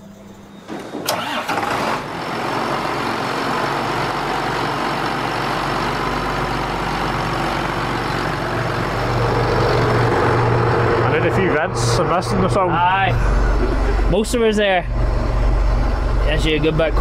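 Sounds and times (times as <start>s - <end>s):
tractor diesel engine running: 0.9s - 17.0s.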